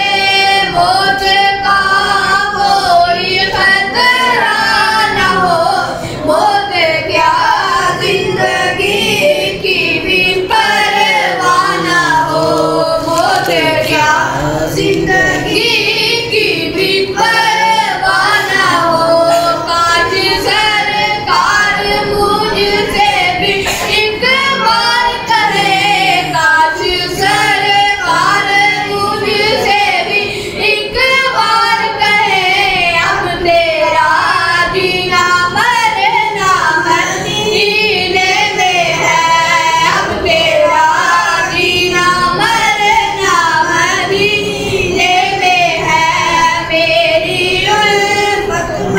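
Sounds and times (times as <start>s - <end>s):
boys singing into a microphone: 0.0s - 48.9s.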